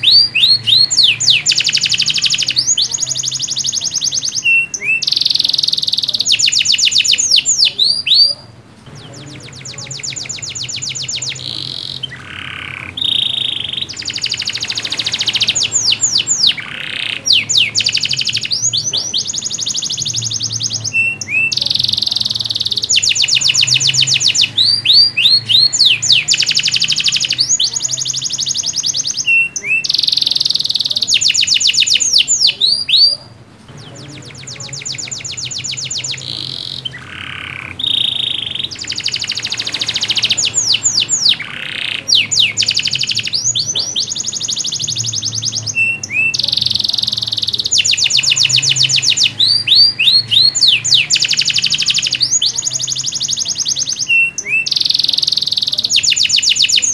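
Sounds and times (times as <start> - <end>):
canary singing with fast trills: 0.0 - 56.9.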